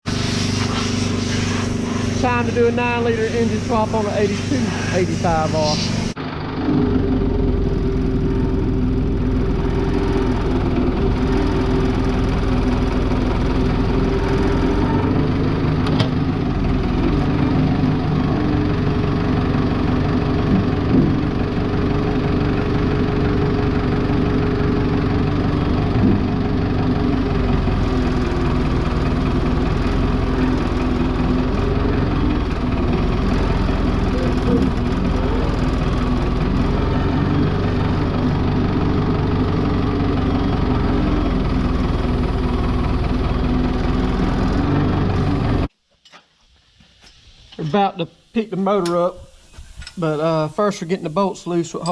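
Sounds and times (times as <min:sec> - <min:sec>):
diesel engine idling: 0:00.0 - 0:45.7.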